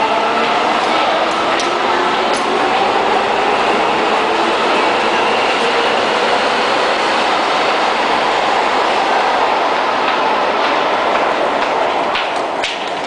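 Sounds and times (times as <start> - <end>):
subway train pulling out: 0.0 - 13.0.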